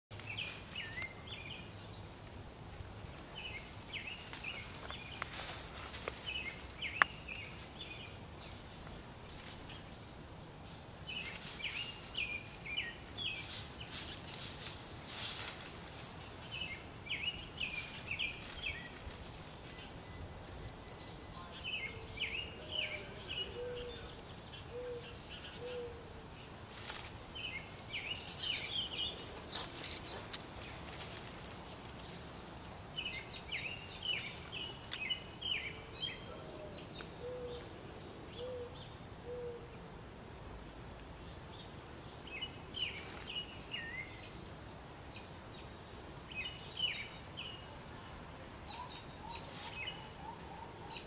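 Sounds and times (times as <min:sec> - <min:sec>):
birds chirping: 0:00.1 - 0:39.8, 0:41.1 - 0:51.0.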